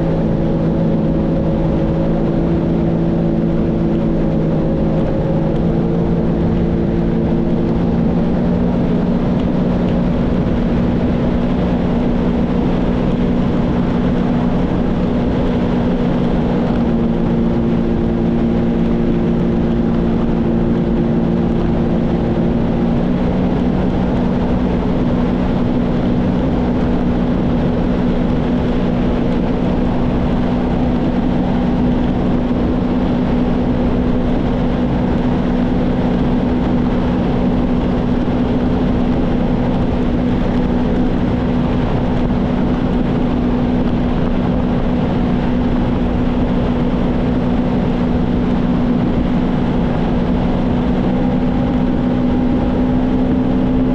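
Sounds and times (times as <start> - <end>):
watercraft engine humming: 0.0 - 53.9
wind and water rushing: 0.0 - 53.9.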